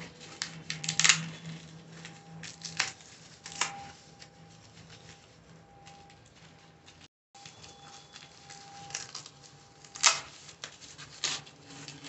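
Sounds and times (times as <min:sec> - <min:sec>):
packing foam and bubble wrap crinkling: 0:00.0 - 0:12.0.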